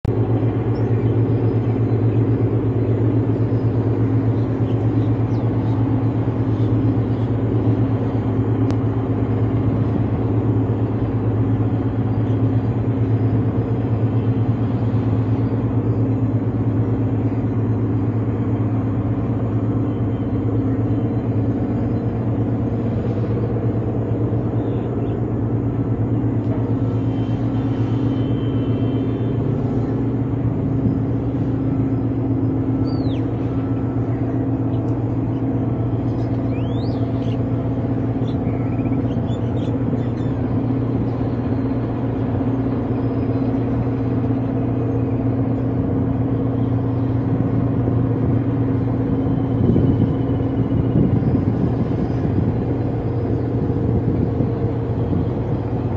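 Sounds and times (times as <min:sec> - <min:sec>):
large engine droning: 0:00.0 - 0:55.9.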